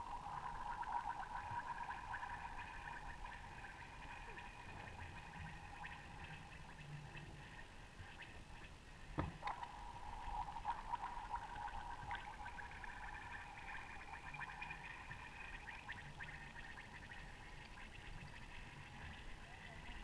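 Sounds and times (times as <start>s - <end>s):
faint steady ringing tone: 0.0s - 20.0s.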